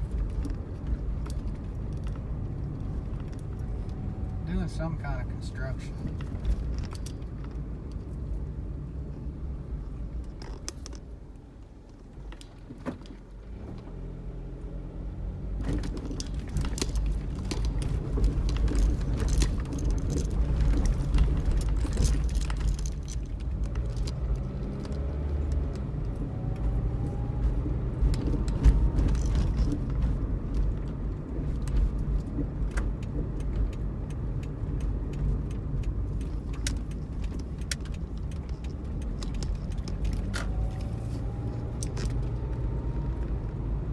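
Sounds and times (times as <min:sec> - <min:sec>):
car engine and road noise: 0:00.0 - 0:43.9
small rattling clicks: 0:00.1 - 0:04.4, 0:06.0 - 0:08.5, 0:09.8 - 0:11.2, 0:15.6 - 0:43.6.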